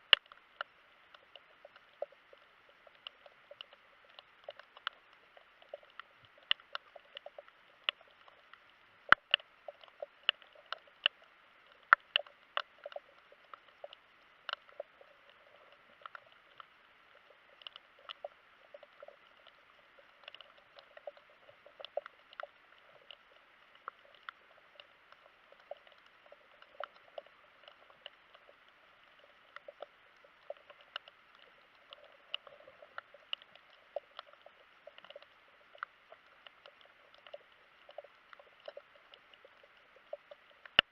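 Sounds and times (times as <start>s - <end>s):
underwater clicks crackling: 0.0s - 40.9s.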